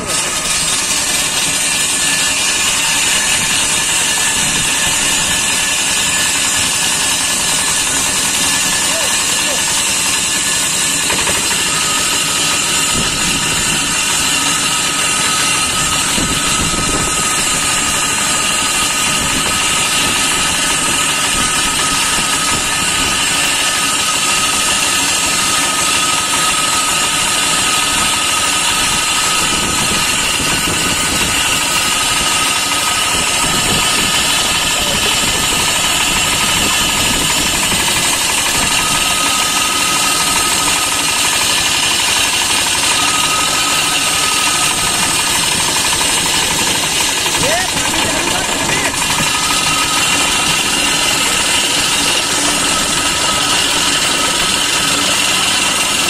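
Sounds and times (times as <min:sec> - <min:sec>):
concrete saw engine running: 0:00.0 - 0:56.0
high whine: 0:00.0 - 0:56.0.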